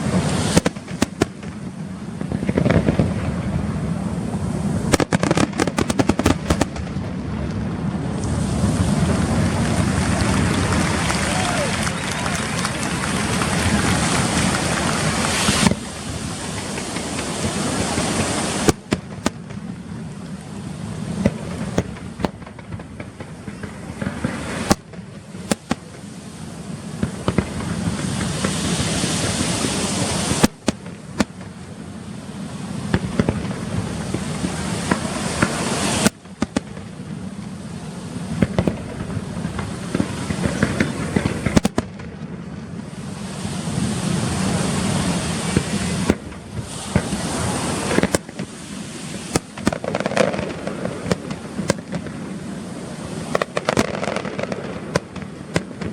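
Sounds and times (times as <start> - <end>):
fireworks bangs: 0.0 - 55.9
fireworks crackling: 0.0 - 55.9.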